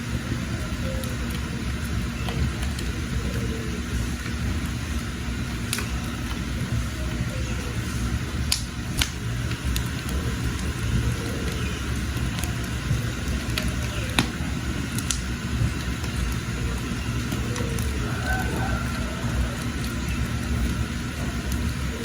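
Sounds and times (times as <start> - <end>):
fire crackles and pops: 0.0 - 22.0
wood fire low rush: 0.0 - 22.0.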